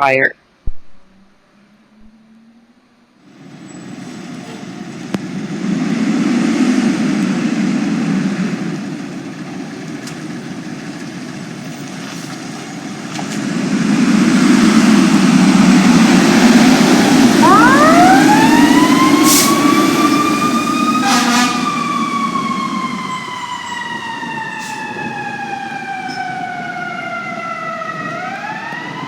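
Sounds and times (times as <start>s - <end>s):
road noise: 1.0s - 29.0s
fire truck diesel engine: 2.0s - 29.0s.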